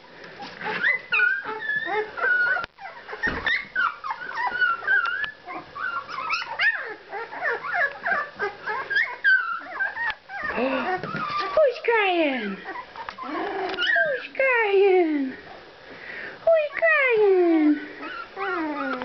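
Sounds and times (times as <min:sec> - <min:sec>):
puppies whining and crying: 0:00.1 - 0:14.5, 0:16.5 - 0:19.0.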